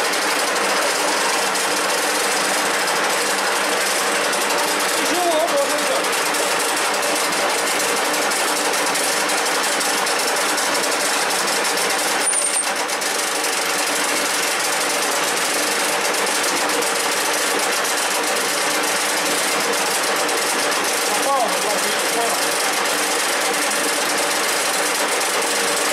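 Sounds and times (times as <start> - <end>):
lathe running: 0.0 - 25.9.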